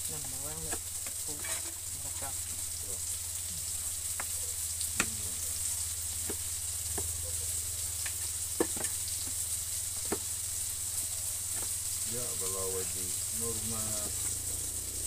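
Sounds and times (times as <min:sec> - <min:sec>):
food sizzling in wok: 0:00.0 - 0:15.0.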